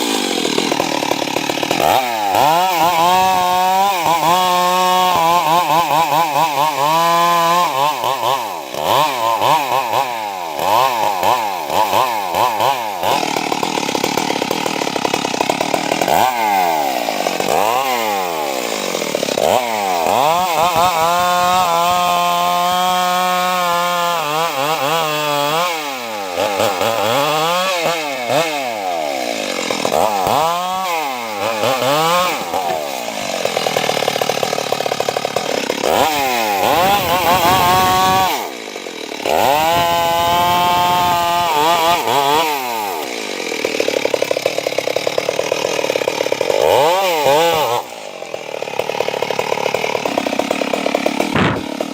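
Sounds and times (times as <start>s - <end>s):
chainsaw engine revving: 0.0s - 51.9s.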